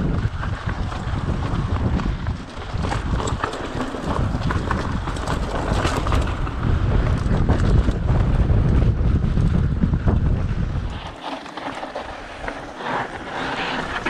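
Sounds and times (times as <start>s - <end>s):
bike rattling over rough dirt: 0.0s - 14.0s
wind rumbling on microphone: 0.0s - 14.0s.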